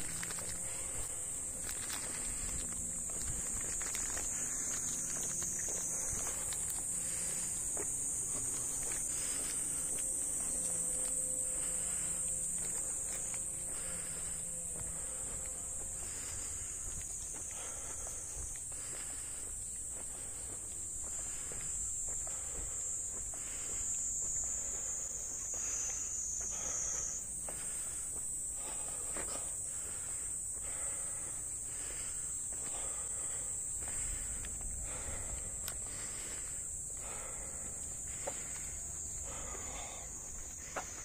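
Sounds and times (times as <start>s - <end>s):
footsteps on asphalt: 0.0s - 41.0s
high-pitched insect drone: 0.0s - 41.0s.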